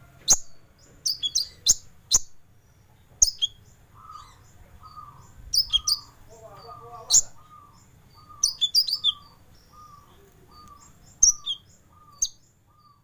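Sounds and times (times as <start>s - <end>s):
bird high chirps: 0.2s - 13.0s.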